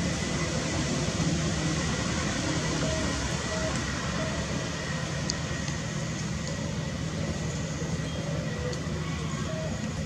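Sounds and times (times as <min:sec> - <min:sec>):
faint high whine: 0:00.0 - 0:10.0
low rumbling background noise: 0:00.0 - 0:10.0.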